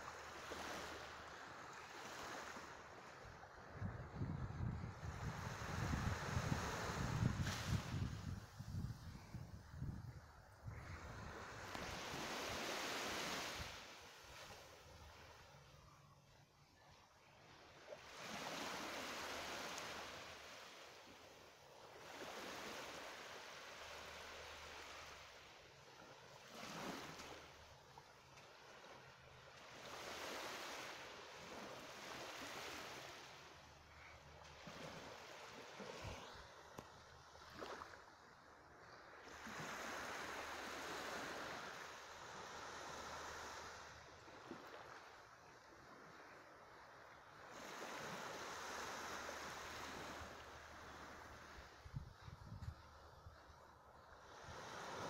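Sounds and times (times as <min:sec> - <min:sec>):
small waves lapping on shore: 0:00.0 - 0:55.0.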